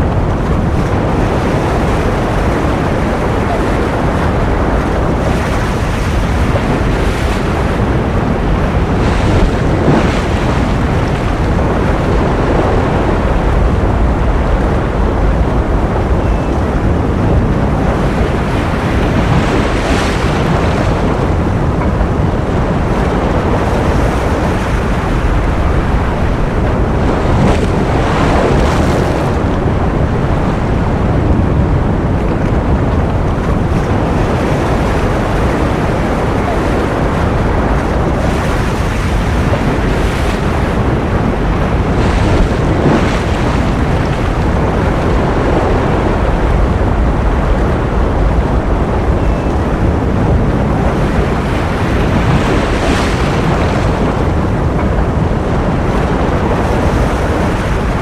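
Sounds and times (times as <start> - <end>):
ocean surf washing: 0.0 - 58.0.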